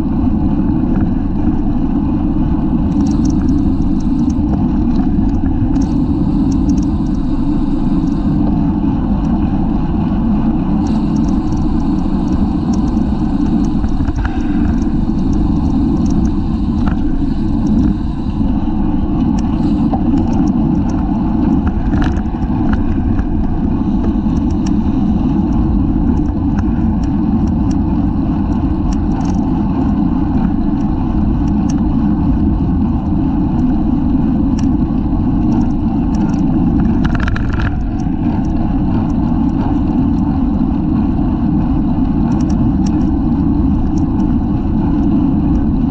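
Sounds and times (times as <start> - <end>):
wind rumble on microphone: 0.0 - 45.9
small clicks and rattles: 2.8 - 8.5, 10.8 - 33.8, 34.4 - 45.9.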